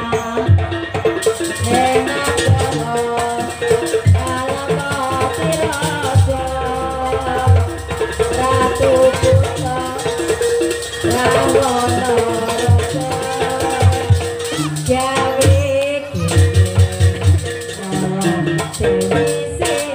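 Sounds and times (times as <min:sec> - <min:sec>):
jingling rattle: 0:00.0 - 0:19.9
wavering melody line: 0:01.6 - 0:19.9.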